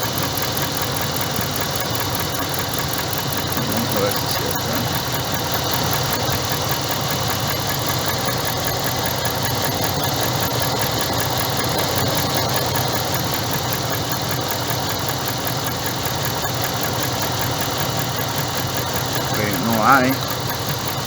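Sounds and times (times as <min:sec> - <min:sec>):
fast light engine ticking: 0:00.0 - 0:21.0
pickup engine idling: 0:00.0 - 0:21.0.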